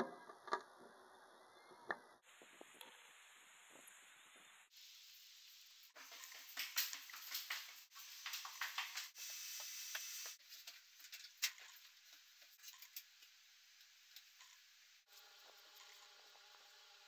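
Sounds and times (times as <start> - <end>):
steady hiss: 2.2 - 17.0.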